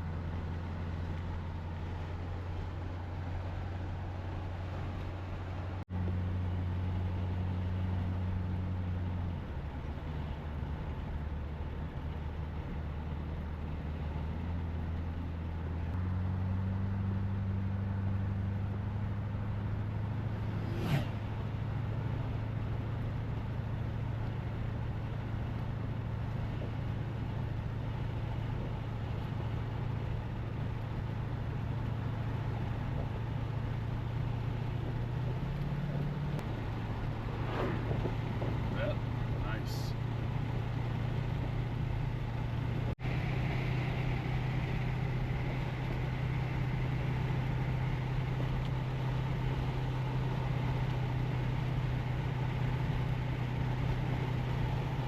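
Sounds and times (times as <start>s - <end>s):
car engine drone: 0.0s - 55.0s.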